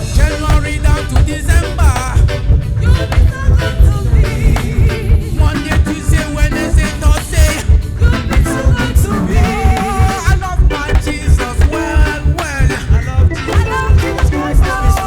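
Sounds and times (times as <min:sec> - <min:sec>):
heavy bass: 0:00.0 - 0:15.0
live reggae band playing: 0:00.0 - 0:15.0
melodic lead line: 0:00.0 - 0:15.0.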